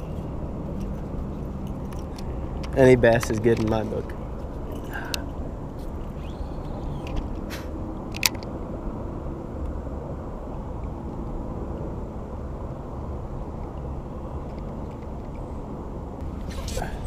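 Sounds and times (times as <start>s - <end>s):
low outdoor rumbling: 0.0s - 17.0s.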